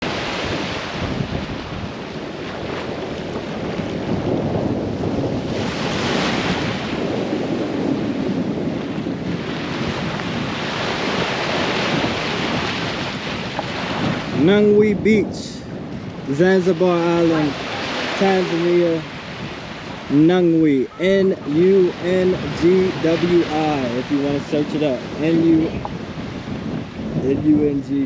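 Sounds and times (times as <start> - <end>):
surf washing onto beach: 0.0 - 28.0
wind across microphone: 0.0 - 28.0.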